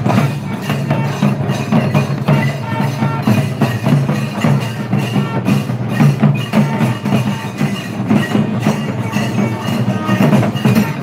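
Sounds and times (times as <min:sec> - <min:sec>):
fast loud drumming: 0:00.0 - 0:11.0.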